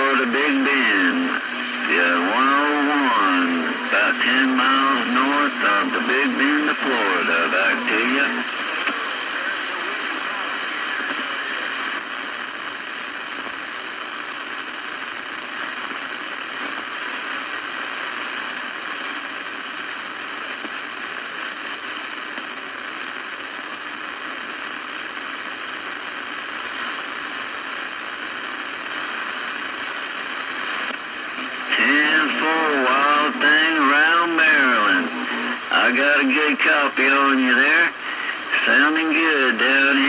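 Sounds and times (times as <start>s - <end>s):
radio static hissing: 0.0s - 40.0s
tinny radio audio: 0.0s - 40.0s.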